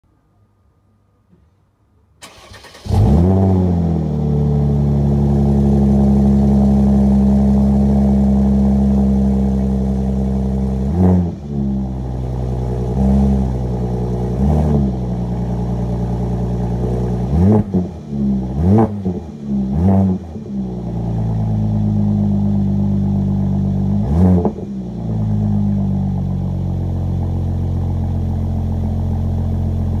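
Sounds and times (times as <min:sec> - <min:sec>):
car engine cranking and starting: 0:02.2 - 0:30.0
car engine idling: 0:03.9 - 0:30.0.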